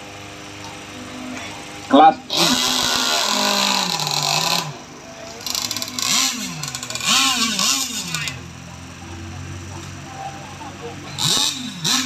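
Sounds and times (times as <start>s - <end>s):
small gasoline engine revving: 0.0s - 12.0s.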